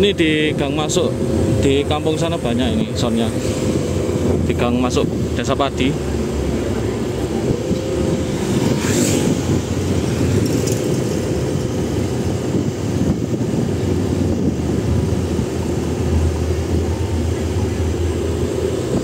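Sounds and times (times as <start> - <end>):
motorcycle engine: 1.1 - 19.0.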